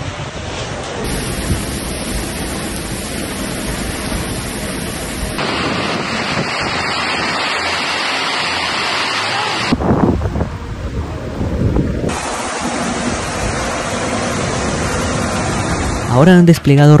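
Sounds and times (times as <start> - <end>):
strong wind: 0.0 - 16.4
heavy rain: 0.0 - 16.5.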